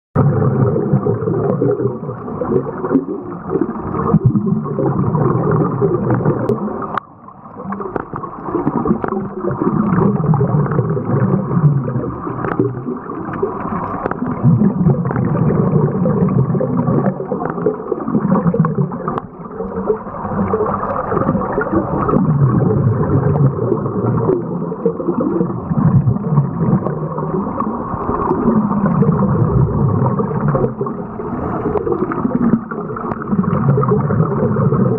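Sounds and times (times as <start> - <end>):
exhaled bubbles gurgling underwater: 0.2 - 34.9.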